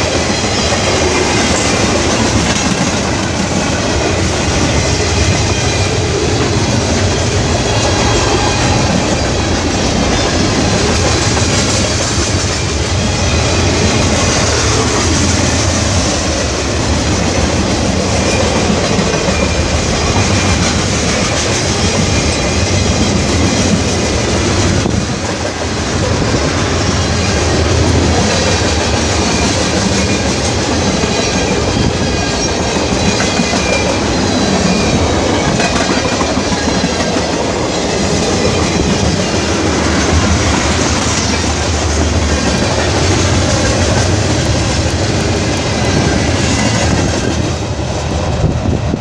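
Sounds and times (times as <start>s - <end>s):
train wheels rolling on rails: 0.0s - 49.0s.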